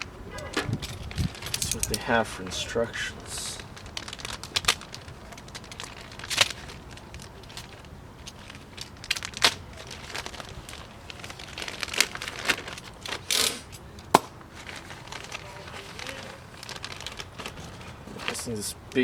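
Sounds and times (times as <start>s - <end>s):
plastic and paper packaging crinkling: 0.0s - 19.0s.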